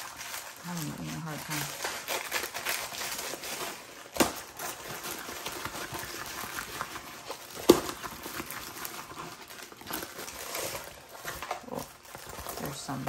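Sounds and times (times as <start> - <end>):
plastic canvas rustling and crinkling: 0.0 - 13.0.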